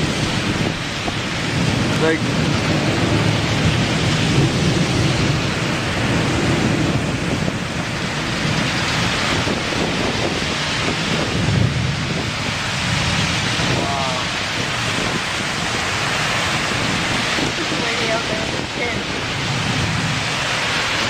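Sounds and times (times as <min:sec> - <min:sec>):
gusting wind on microphone: 0:00.0 - 0:21.0
heavy rain pouring: 0:00.0 - 0:21.0.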